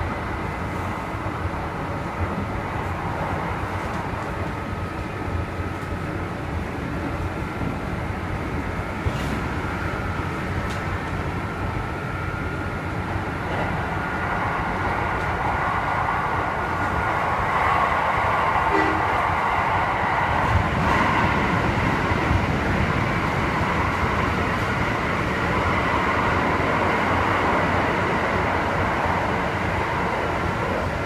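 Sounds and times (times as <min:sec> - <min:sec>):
electric train rumble and whine: 0:00.0 - 0:31.0.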